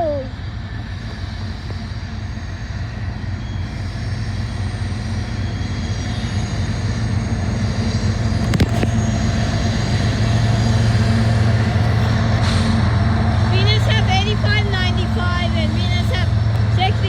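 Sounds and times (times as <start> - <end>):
diesel locomotive engine hum: 0.0 - 17.0.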